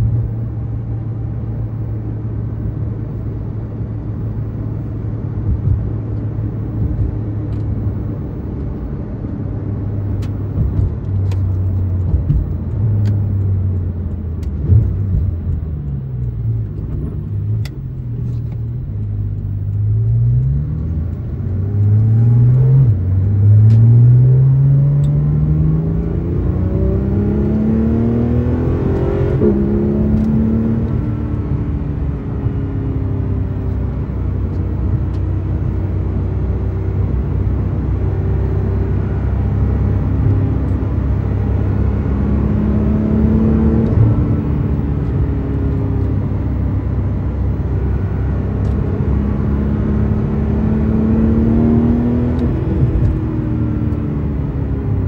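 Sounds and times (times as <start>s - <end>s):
car engine revving in cabin: 0.0s - 55.0s.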